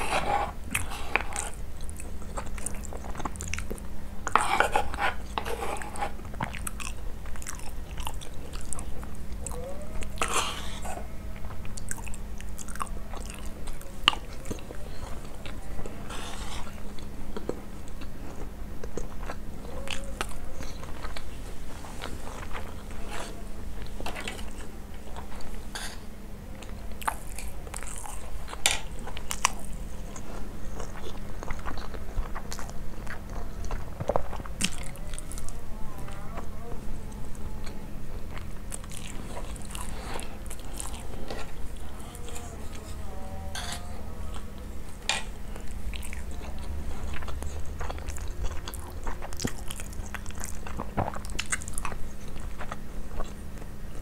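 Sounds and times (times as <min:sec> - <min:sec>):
low steady hum: 0:00.0 - 0:54.0
person chewing food: 0:00.0 - 0:54.0.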